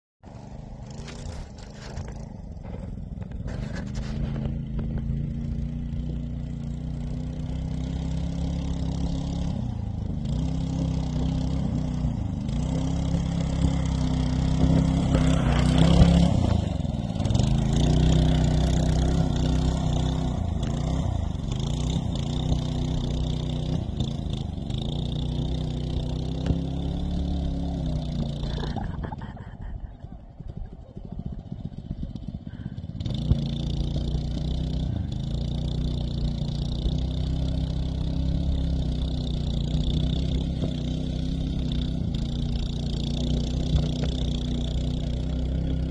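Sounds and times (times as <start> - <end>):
mini bike engine revving: 0.3 - 45.9.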